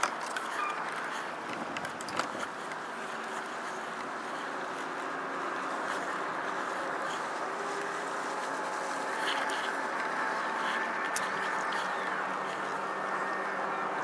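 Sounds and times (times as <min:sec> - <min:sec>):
boat engine drone: 0:00.0 - 0:14.0
wind: 0:00.0 - 0:14.0.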